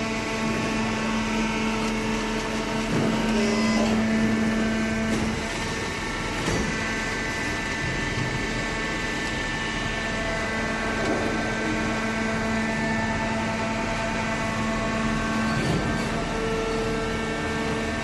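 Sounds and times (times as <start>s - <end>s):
baler machine humming and whining: 0.0s - 18.0s.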